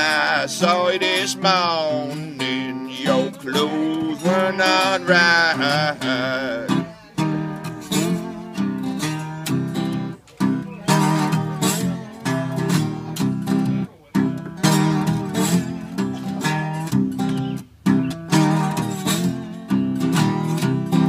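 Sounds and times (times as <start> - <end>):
slide acoustic guitar blues riff: 0.0 - 21.0.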